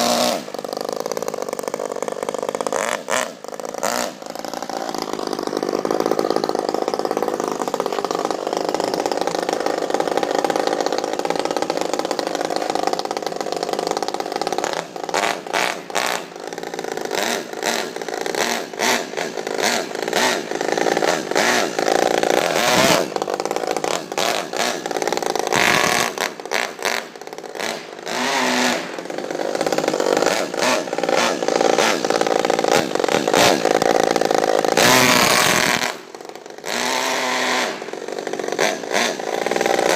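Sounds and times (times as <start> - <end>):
rc car engine revving: 0.0 - 39.9.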